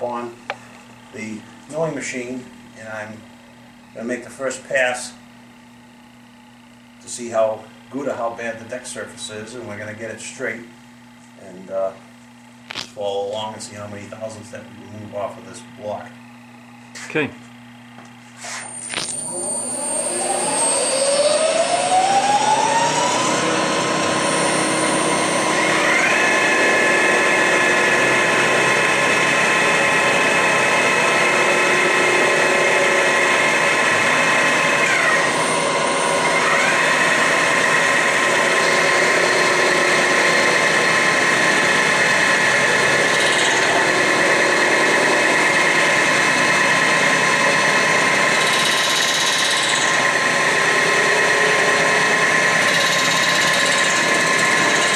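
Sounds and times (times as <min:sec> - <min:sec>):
higher machine whine: 0:00.0 - 0:54.9
milling machine whine: 0:00.0 - 0:54.9.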